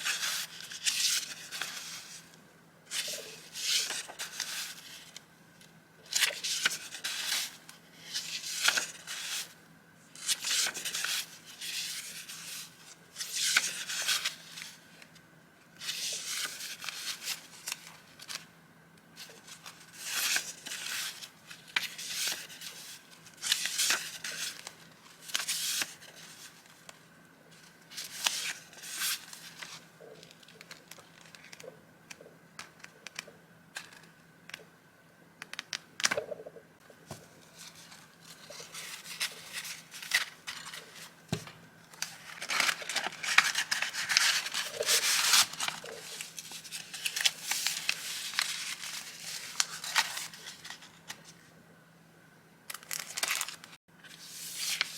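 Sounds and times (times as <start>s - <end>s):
paper rustling and crinkling: 0.0s - 2.3s, 2.9s - 5.2s, 6.1s - 9.6s, 10.2s - 15.0s, 15.8s - 18.5s, 19.2s - 34.6s, 37.0s - 51.4s, 52.7s - 54.9s.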